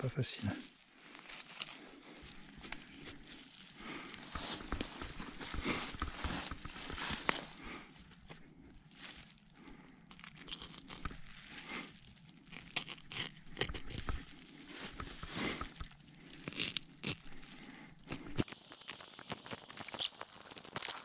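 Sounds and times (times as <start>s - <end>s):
plastic gloves crinkling: 1.1s - 21.0s.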